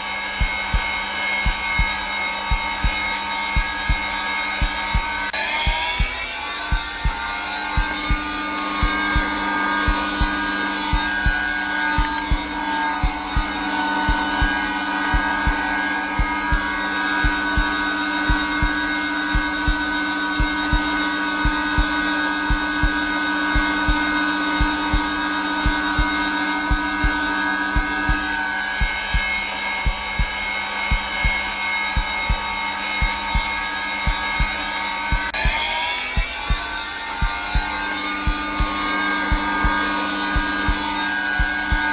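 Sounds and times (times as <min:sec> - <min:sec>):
vacuum cleaner motor running: 0:00.0 - 0:41.9
low heartbeat thump: 0:00.4 - 0:06.1, 0:06.7 - 0:35.6, 0:36.2 - 0:41.9.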